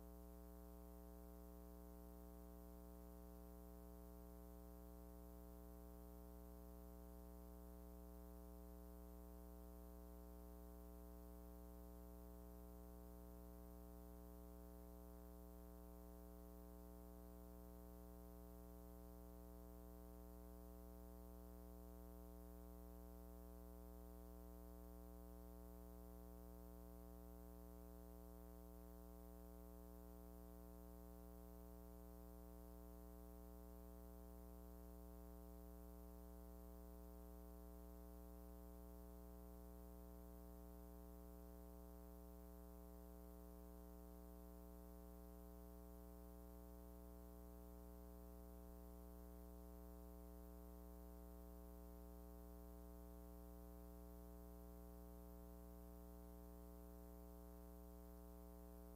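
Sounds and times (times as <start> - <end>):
faint electrical hum: 0.0 - 58.9.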